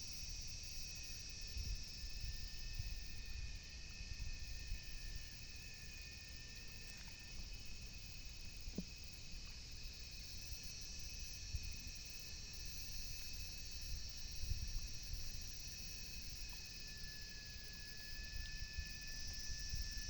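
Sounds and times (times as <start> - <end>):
wind rumble on microphone: 0.0 - 9.9, 11.0 - 16.9, 17.6 - 20.0
insects droning: 0.0 - 20.0.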